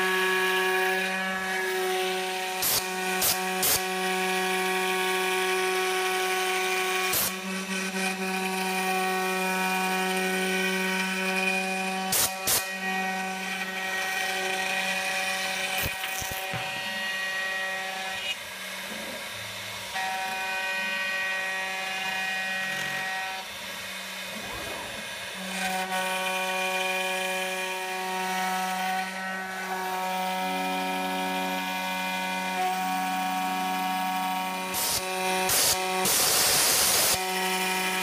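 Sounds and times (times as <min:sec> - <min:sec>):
router spindle buzzing whine: 0:00.0 - 0:38.0.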